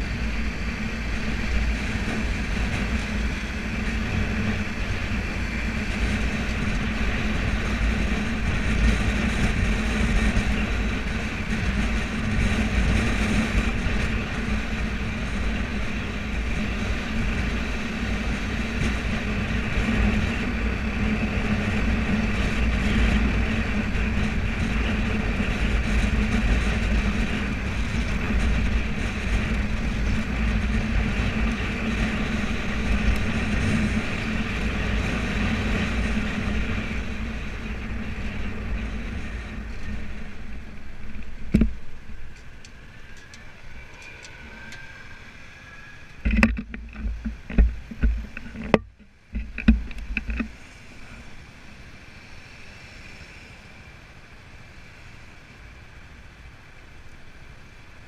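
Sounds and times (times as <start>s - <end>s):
wind buffeting microphone: 0.0s - 52.3s
motorbike engine hum: 0.0s - 58.0s
road noise: 0.0s - 58.0s.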